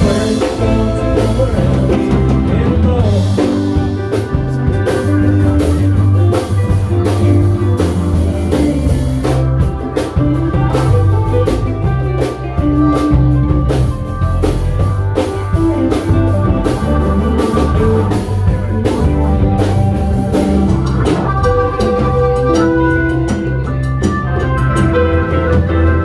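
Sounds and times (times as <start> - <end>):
band playing instrumental: 0.0 - 26.0
drum kit beat: 0.0 - 26.0
guitar: 0.0 - 26.0.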